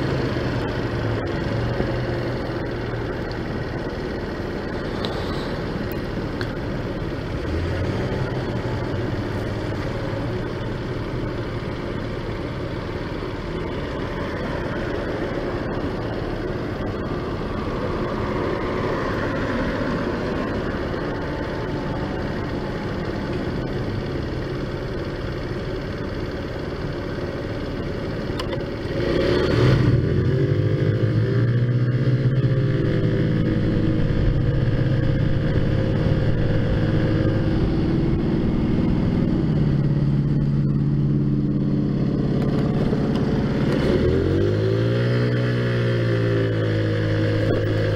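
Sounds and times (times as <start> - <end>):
road noise: 0.0 - 47.9
scooter engine running: 0.0 - 47.9.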